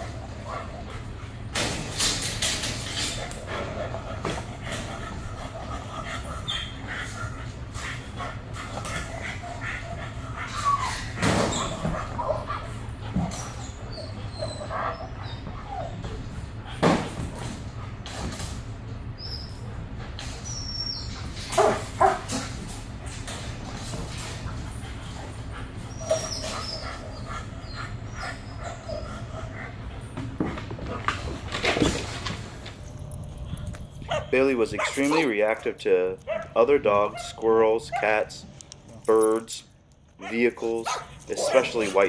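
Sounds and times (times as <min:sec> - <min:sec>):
dog noises: 0:00.0 - 0:42.0
steady low hum: 0:00.0 - 0:42.0.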